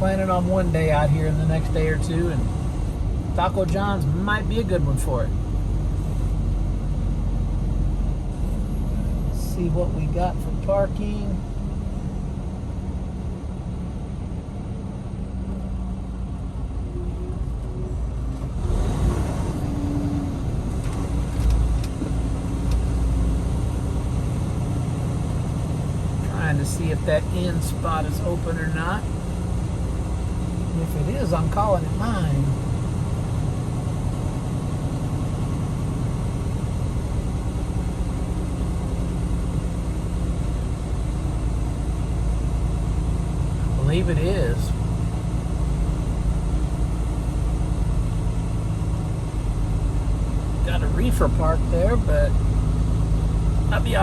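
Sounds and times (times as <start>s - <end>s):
diesel truck engine rumble: 0.0s - 54.0s.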